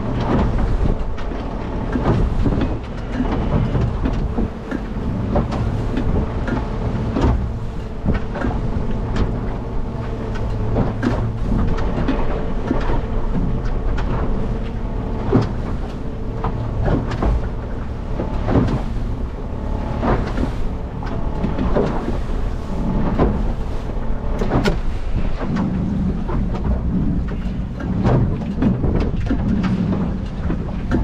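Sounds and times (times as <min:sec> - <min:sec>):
knocks and splashes: 0:00.0 - 0:31.0
small boat motor running: 0:00.0 - 0:31.0
water noise: 0:00.0 - 0:31.0
wind: 0:00.0 - 0:31.0.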